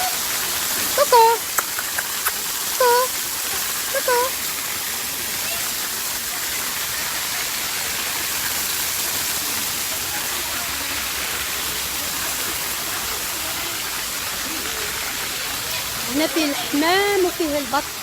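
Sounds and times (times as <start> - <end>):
water rushing from waterfall: 0.0 - 18.0.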